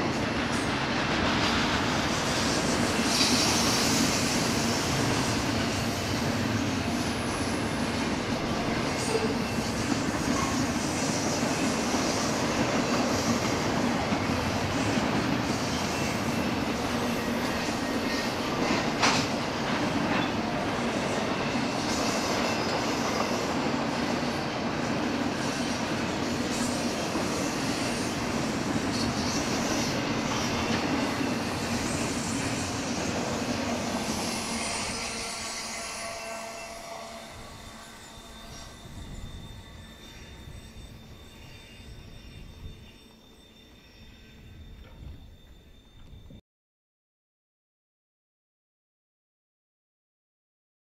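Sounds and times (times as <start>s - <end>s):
freight train wheels rumbling: 0.0s - 46.4s.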